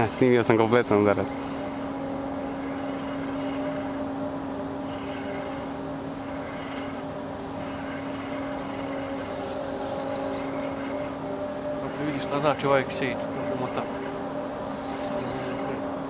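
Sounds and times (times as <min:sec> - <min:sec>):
outboard motor humming: 0:00.0 - 0:16.0.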